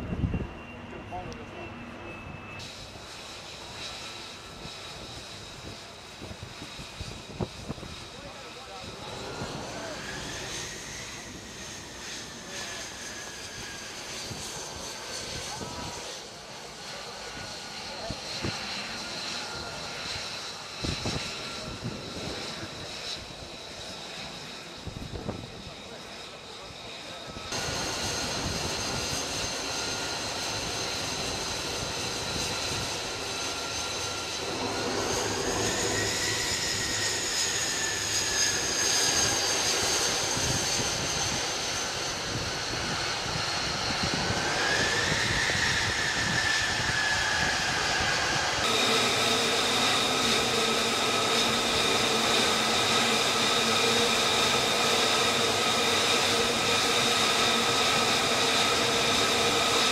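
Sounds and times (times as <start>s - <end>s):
jet engine whining: 0.0s - 59.9s.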